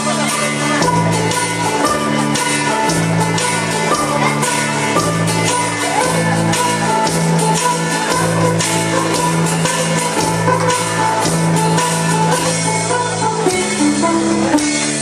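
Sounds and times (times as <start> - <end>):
live band playing dance music: 0.0 - 15.0.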